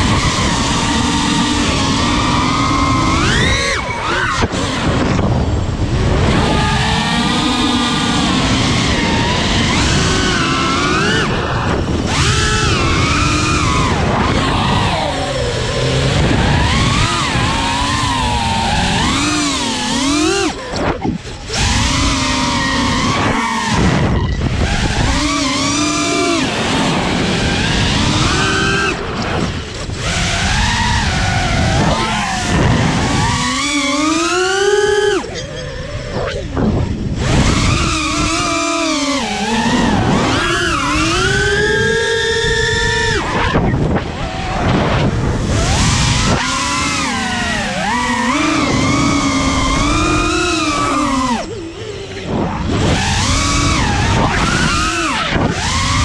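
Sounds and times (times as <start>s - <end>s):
drone motors whining: 0.0s - 56.0s
wind rumbling on microphone: 0.0s - 56.0s.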